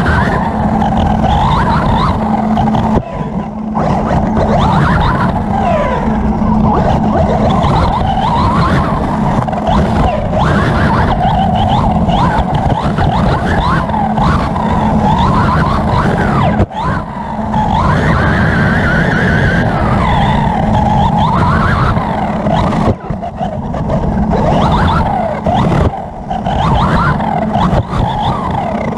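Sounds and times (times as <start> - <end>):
electric motor whine: 0.0 - 28.9
rumble of tyres on dirt: 0.0 - 28.9.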